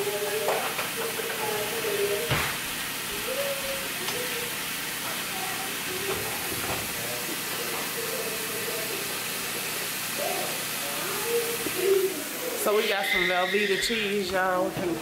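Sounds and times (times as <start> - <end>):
patties sizzling in a frying pan: 0.0 - 15.0.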